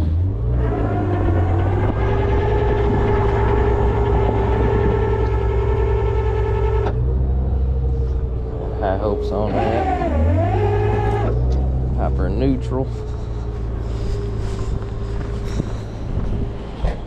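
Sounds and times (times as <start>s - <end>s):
hydraulics whining: 0.0s - 17.0s
truck engine rumble: 0.0s - 17.0s.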